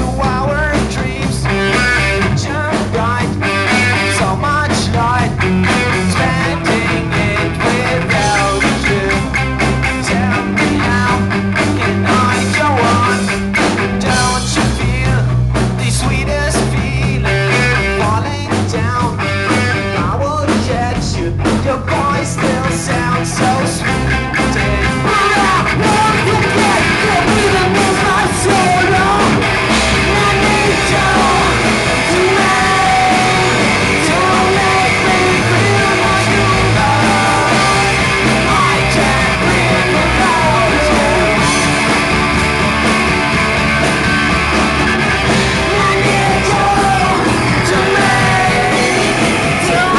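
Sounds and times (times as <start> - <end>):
voices singing: 0.0 - 15.2, 19.5 - 49.9
drums: 0.0 - 49.9
electric guitars: 0.0 - 49.9.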